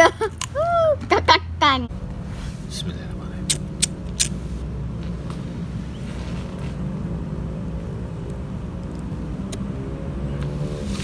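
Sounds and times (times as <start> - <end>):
steady low rumble: 0.2 - 9.6.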